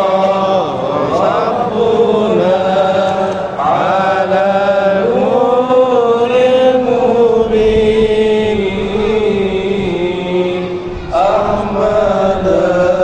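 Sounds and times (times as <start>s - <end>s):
person chanting long notes: 0.0s - 13.0s.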